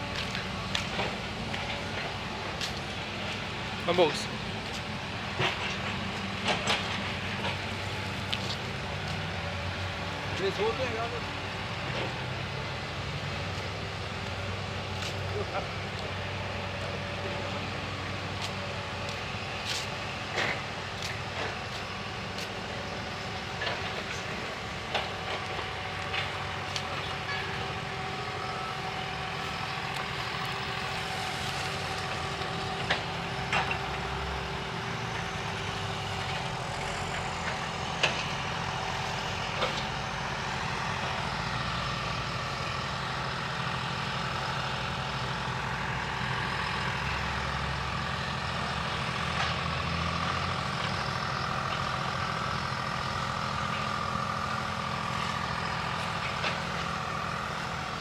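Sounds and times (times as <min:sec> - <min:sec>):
heavy truck engine running: 0:00.0 - 0:58.0.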